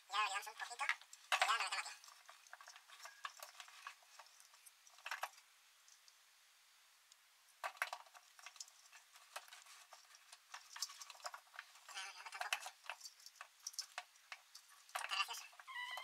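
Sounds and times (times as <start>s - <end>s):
plastic spool clicking and knocking: 0.7s - 5.4s, 7.6s - 16.0s.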